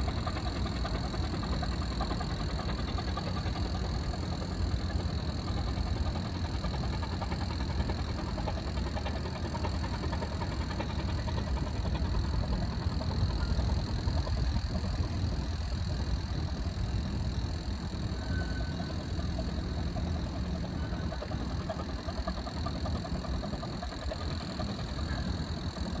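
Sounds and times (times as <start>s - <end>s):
engine running low: 0.0s - 26.0s
faint high whine: 0.0s - 26.0s.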